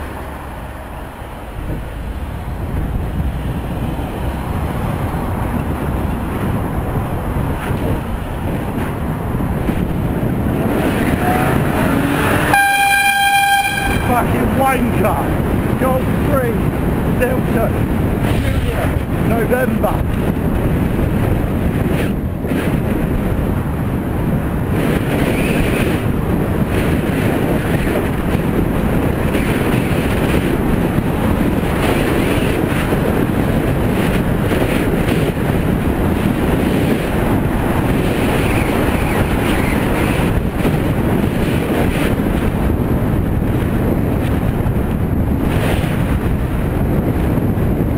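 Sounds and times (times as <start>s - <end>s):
road rushing beneath bicycle: 0.0s - 47.9s
wind buffeting microphone: 0.0s - 47.9s.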